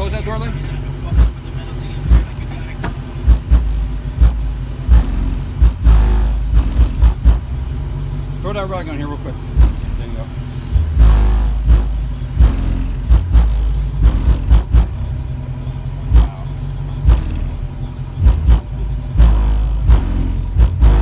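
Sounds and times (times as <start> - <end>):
loud bass-heavy music: 0.0 - 21.0.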